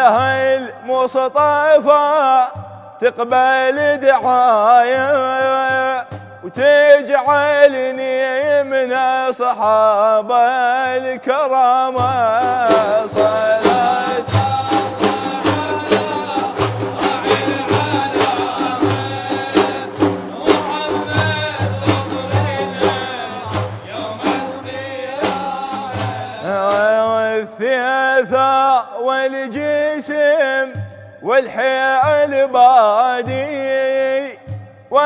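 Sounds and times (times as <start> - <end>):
frame drums beaten: 0.0 - 7.8, 11.8 - 28.6, 29.5 - 35.0
men singing: 0.0 - 35.0
solo male voice singing: 0.0 - 35.0.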